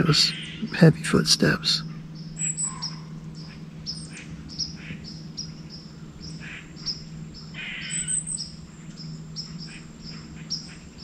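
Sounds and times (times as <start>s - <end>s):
high chirping: 0.0s - 11.0s.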